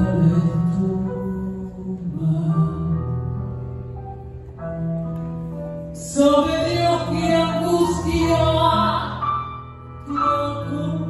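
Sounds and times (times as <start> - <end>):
grand piano chords: 0.0 - 11.0.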